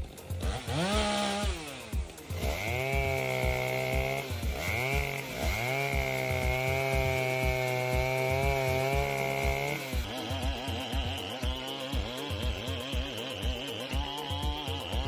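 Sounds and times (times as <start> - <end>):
chainsaw cutting at high revs: 0.0 - 15.0.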